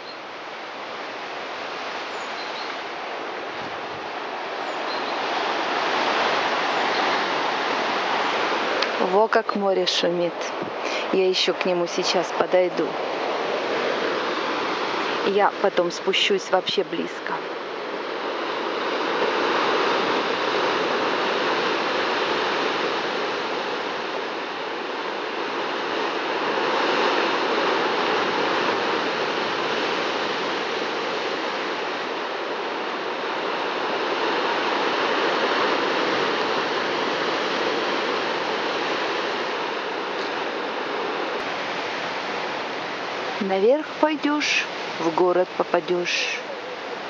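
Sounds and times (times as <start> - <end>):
surf breaking on rocks: 5.2 - 46.5.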